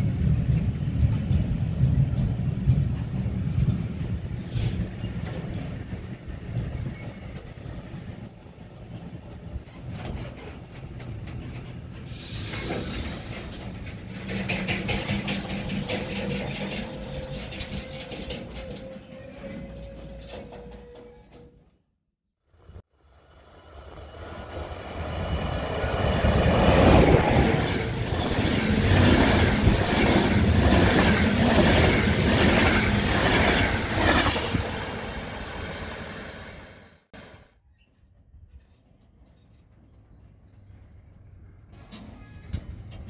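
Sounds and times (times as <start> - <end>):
freight train wheels rumbling: 0.0 - 21.6, 23.6 - 37.4.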